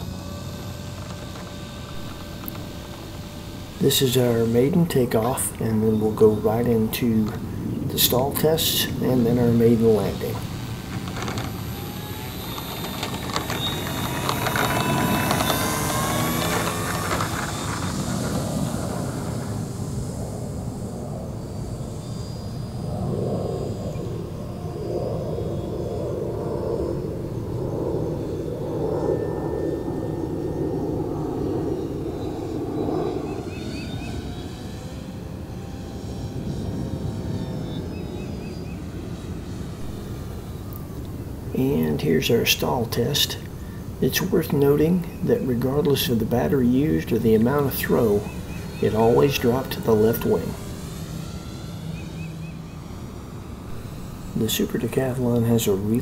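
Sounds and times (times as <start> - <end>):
model plane motor whining: 0.0 - 56.0
rushing background noise: 0.0 - 56.0.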